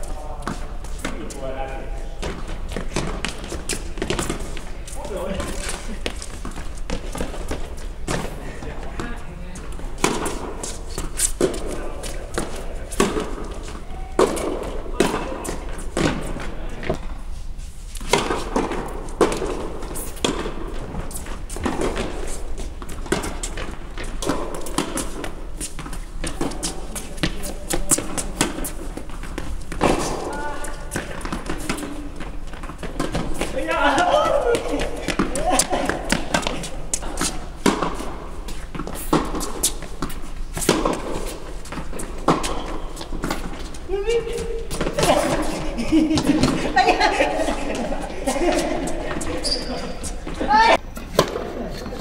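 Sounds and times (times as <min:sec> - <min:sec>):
tennis balls struck by racquets: 0:00.0 - 0:17.2, 0:18.0 - 0:51.6
footsteps on court: 0:00.0 - 0:52.0
tennis ball bouncing on court: 0:02.2 - 0:08.3, 0:09.0 - 0:17.0, 0:18.1 - 0:46.8, 0:48.1 - 0:51.6.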